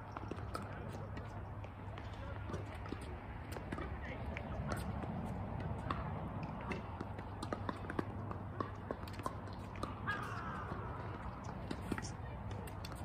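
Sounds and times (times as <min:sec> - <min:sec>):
tennis ball bouncing: 0:00.0 - 0:13.0
tennis racket hitting ball: 0:02.2 - 0:13.0.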